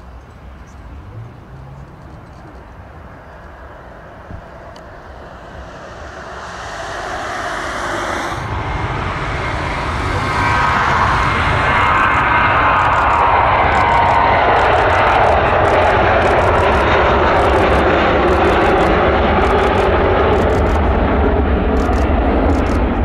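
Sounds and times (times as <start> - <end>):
jet engines rumbling at takeoff: 0.0 - 23.0.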